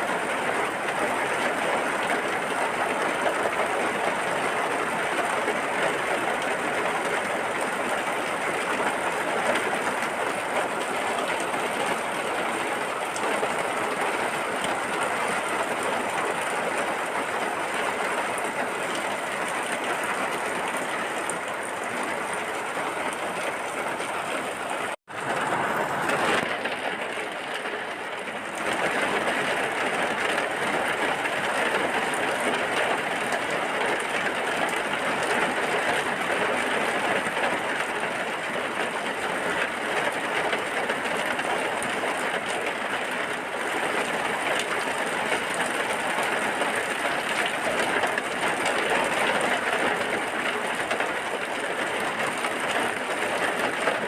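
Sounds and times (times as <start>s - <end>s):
dense rain falling: 0.0s - 54.0s.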